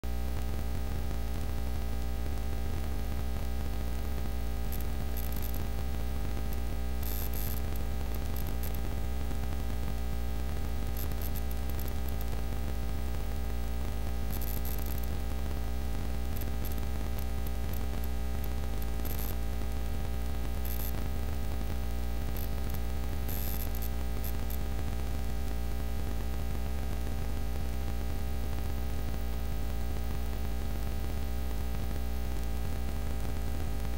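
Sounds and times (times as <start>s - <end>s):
interference crackles: 0.0s - 33.9s
mains hum and static hiss: 0.0s - 33.9s.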